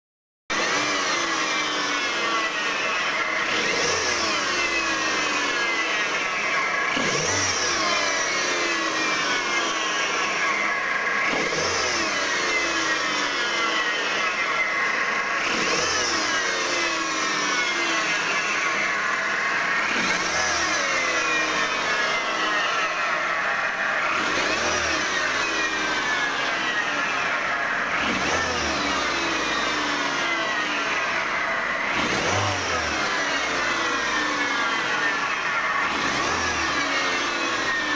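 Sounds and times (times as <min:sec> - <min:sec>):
car engine running: 0:00.5 - 0:37.9.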